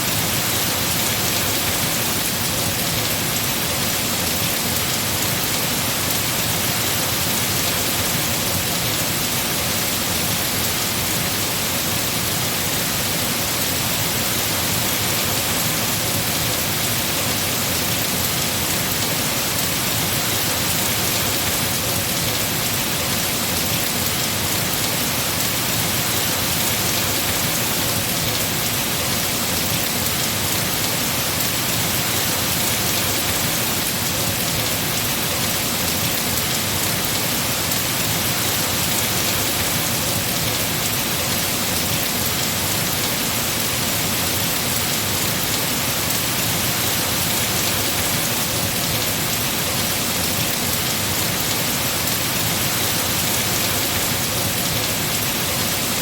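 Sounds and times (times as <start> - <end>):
heavy rain on tree foliage: 0.0 - 56.0.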